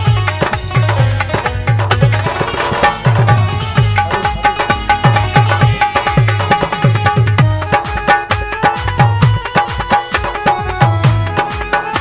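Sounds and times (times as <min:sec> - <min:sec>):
hand drum rhythm: 0:00.0 - 0:12.0
held melody note: 0:00.7 - 0:12.0.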